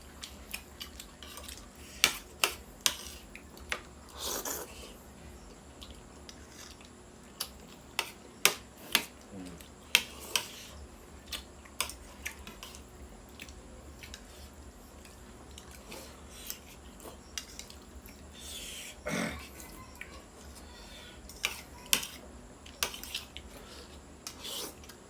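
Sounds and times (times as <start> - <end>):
faint chewing: 0.0 - 25.0.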